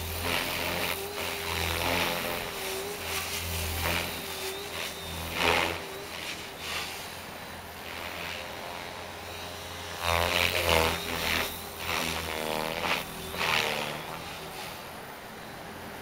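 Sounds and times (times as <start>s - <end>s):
rc helicopter rotor and motor: 0.0s - 16.0s.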